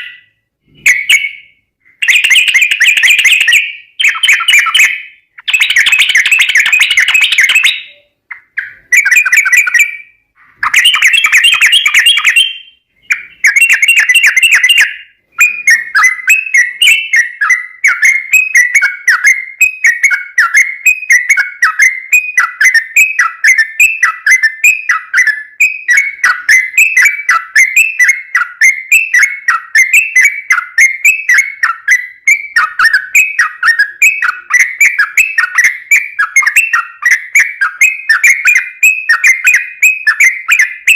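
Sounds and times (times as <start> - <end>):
bulbul singing: 0.0 - 40.9.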